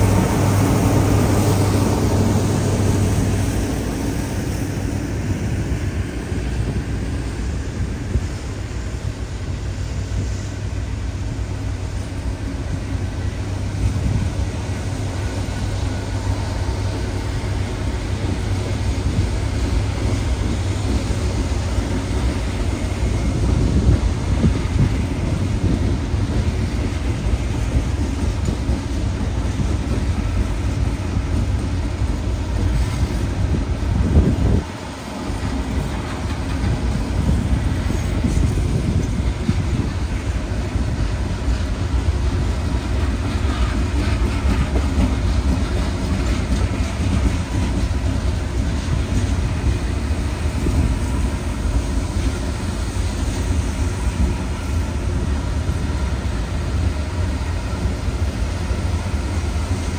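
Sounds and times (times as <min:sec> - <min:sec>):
clickety-clack of rail joints: 0:00.0 - 0:59.9
wheels rumbling on rails: 0:00.0 - 0:59.9.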